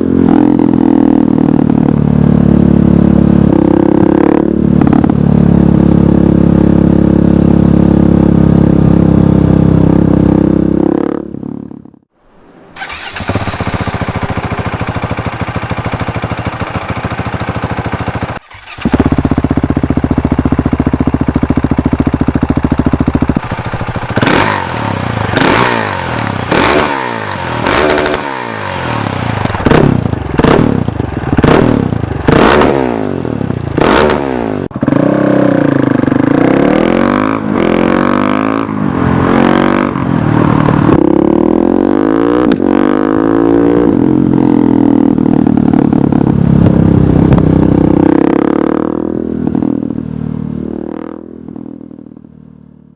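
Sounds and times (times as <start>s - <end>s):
motorcycle engine idling and revving: 0.0s - 12.1s, 12.7s - 52.9s.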